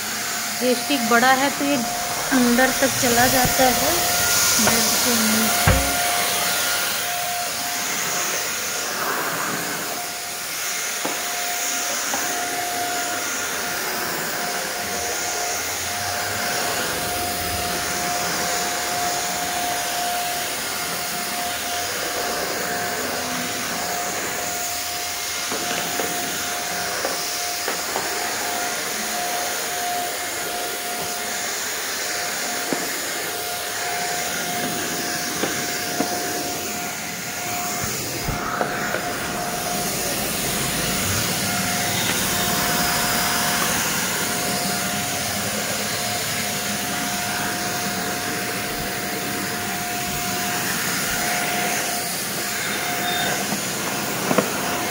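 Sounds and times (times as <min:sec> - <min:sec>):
hand vacuum cleaner running: 0:00.0 - 0:54.9.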